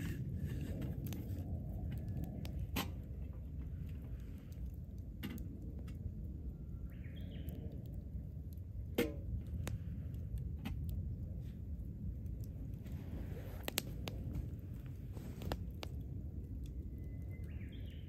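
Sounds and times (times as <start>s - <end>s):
campfire crackling and popping: 0.0s - 18.0s
low rumble: 0.0s - 18.0s.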